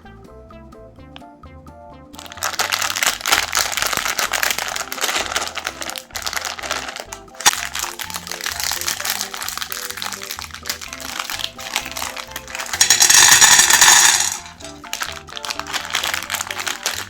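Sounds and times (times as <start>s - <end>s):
background music: 0.0s - 17.0s
meat grinder crunching candy: 2.2s - 17.0s.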